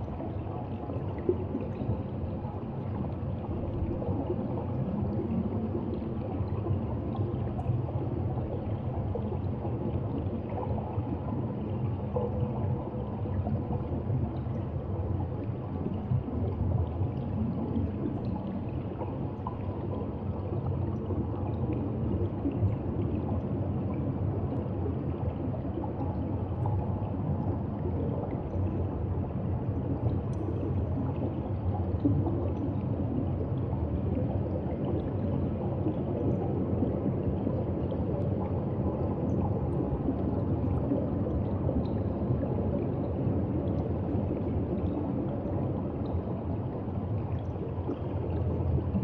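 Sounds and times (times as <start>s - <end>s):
faint hum: 0.0s - 49.0s
underwater wash of water: 0.0s - 49.0s.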